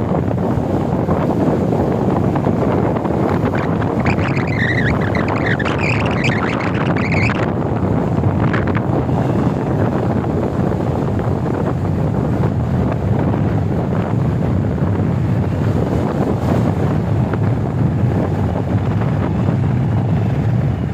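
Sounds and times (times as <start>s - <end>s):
strong wind on microphone: 0.0s - 20.9s.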